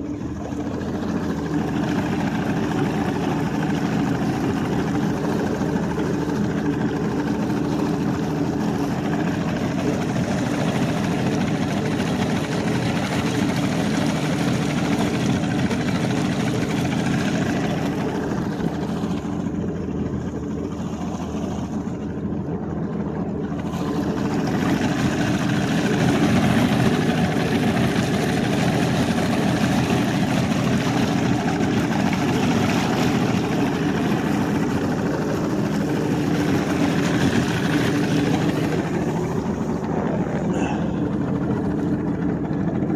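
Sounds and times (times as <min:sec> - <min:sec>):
outboard motor running: 0:00.0 - 0:42.9
wind and water rushing: 0:00.0 - 0:42.9.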